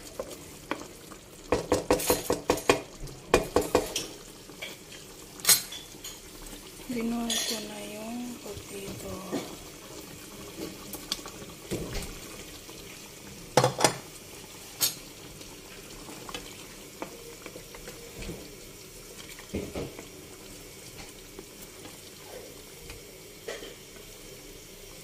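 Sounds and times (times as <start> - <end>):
curry simmering in a pan: 0.0 - 25.0.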